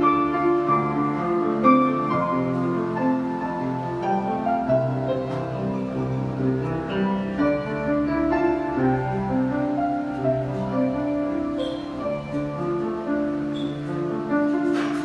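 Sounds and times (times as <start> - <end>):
grand piano playing melody: 0.0 - 15.0.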